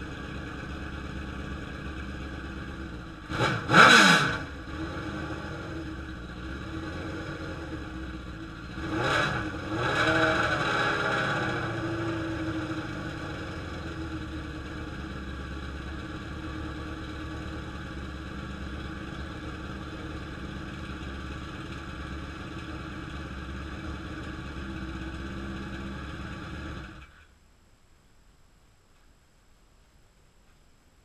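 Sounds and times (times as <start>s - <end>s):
motorcycle engine idling: 0.0s - 3.7s, 4.4s - 9.7s, 11.0s - 27.2s.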